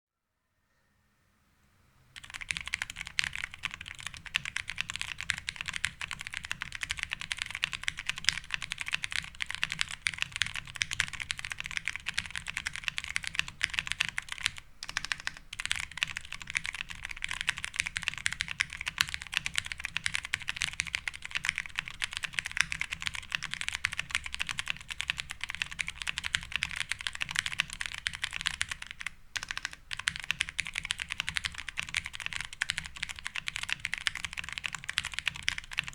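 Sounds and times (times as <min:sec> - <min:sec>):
fast mechanical keyboard typing: 0:02.2 - 0:35.9.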